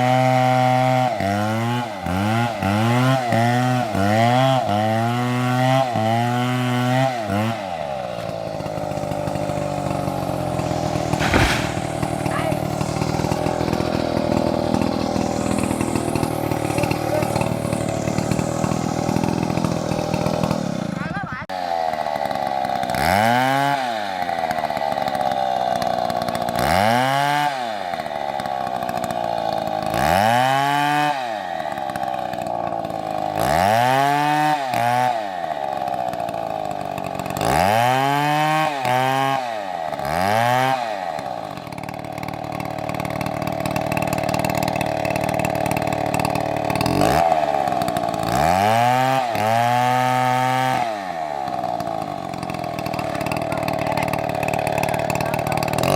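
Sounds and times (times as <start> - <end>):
chainsaw engine revving: 0.0 - 55.9.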